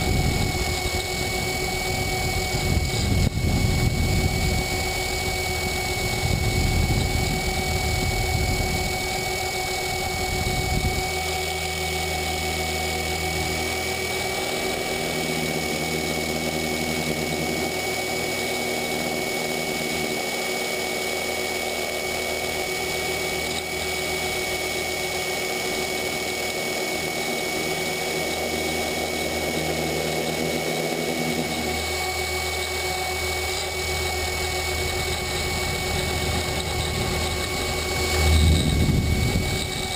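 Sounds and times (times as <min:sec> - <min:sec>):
electric helicopter whine: 0:00.0 - 0:39.9.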